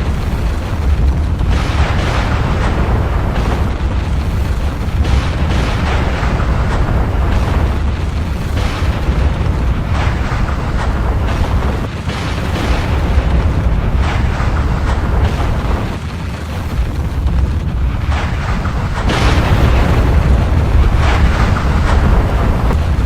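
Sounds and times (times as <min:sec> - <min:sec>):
deep volcanic rumble: 0:00.0 - 0:23.0.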